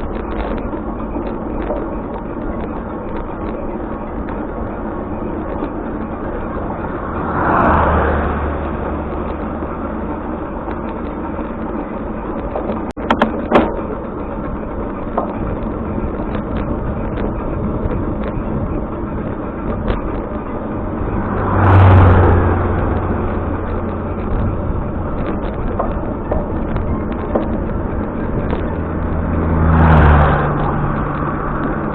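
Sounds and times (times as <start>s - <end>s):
road traffic noise: 0.0s - 31.9s
vehicle passing with low hum: 0.0s - 31.9s.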